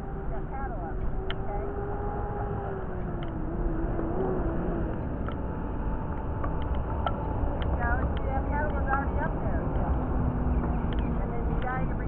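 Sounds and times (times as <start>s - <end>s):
motor droning: 0.0s - 12.0s
wind rumble on microphone: 0.0s - 12.0s.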